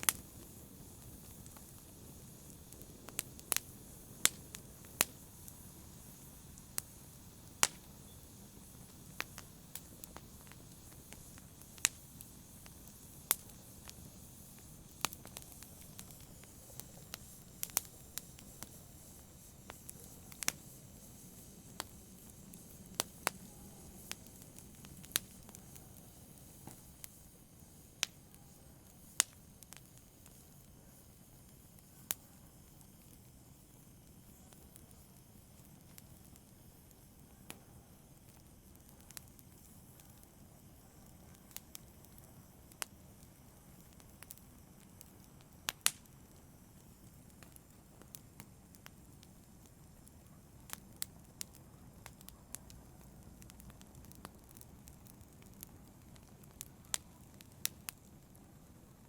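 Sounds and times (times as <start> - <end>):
low rumble of burning: 0.0 - 59.0
wood fire crackling: 0.0 - 59.0.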